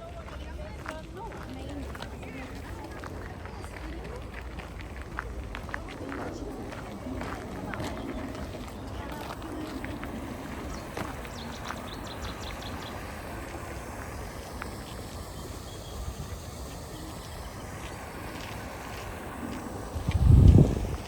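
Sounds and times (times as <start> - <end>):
steady low rumble: 0.6 - 21.0.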